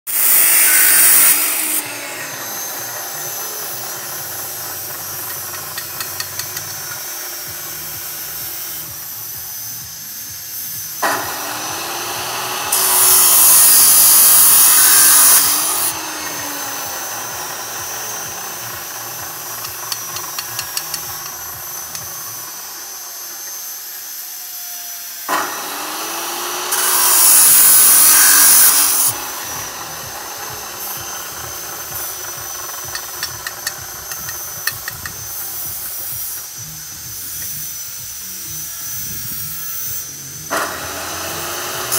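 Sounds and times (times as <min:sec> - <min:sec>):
cut-off saw grinding metal: 0:00.1 - 0:41.9
saw motor whining: 0:00.1 - 0:41.9.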